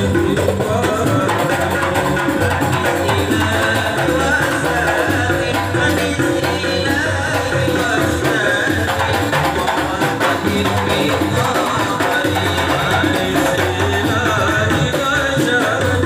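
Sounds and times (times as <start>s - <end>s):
frame drums beating rhythm: 0.0s - 16.0s
voices singing: 0.0s - 16.0s.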